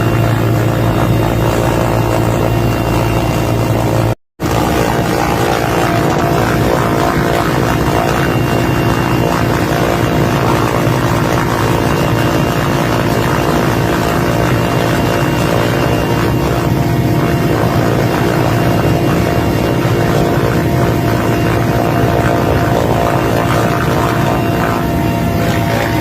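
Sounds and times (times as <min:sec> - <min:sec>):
helicopter flying overhead: 0:00.0 - 0:26.0.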